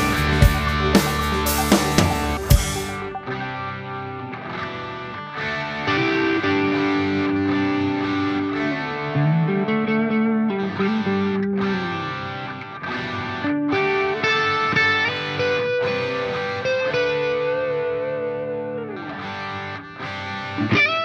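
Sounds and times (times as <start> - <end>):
distorted electric guitar music: 0.0 - 21.0.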